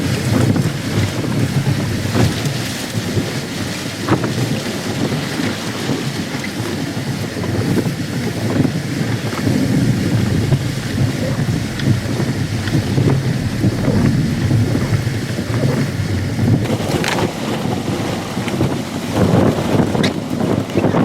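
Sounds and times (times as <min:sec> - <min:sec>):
gusty wind buffeting microphone: 0:00.0 - 0:05.4, 0:06.9 - 0:21.0
heavy rain: 0:00.0 - 0:05.8, 0:07.4 - 0:21.0.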